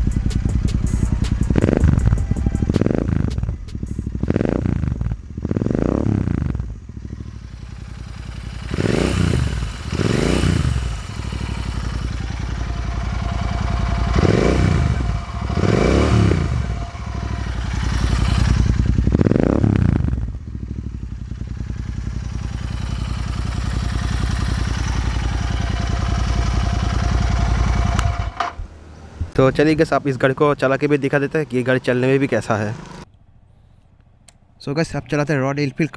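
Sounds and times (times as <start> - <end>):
motorcycle engine idling and revving: 0.0 - 33.2.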